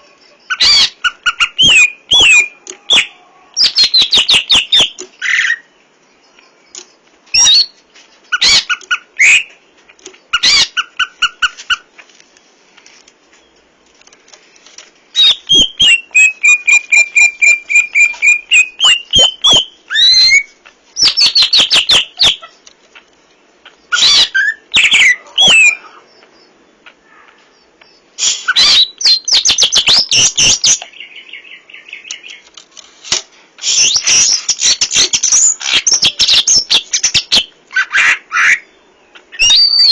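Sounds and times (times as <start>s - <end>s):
bird singing chirps and trills: 0.0s - 11.6s, 15.1s - 32.6s, 33.6s - 39.9s.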